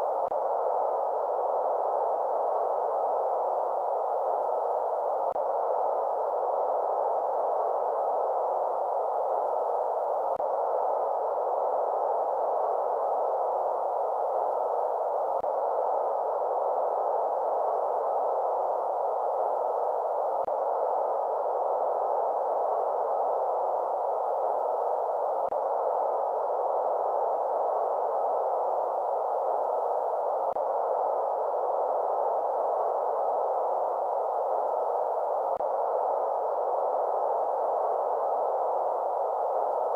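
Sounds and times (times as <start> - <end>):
mid-pitched hiss: 0.0 - 39.9.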